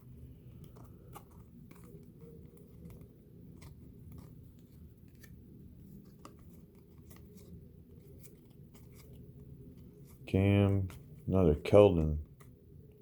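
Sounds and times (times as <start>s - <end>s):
trading cards flipping and sliding: 0.0s - 13.0s.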